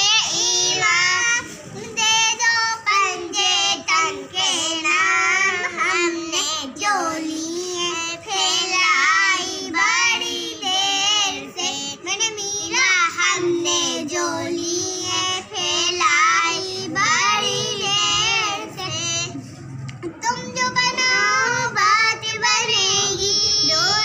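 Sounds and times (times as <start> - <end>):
girls singing unaccompanied: 0.0 - 24.0.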